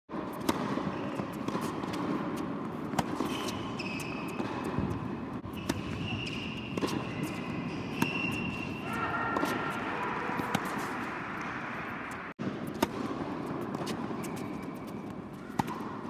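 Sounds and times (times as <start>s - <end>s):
tennis ball bouncing: 0.1s - 16.0s
tennis ball struck by racket: 0.1s - 16.0s
shoes squeaking on court: 0.3s - 12.8s, 13.4s - 16.0s.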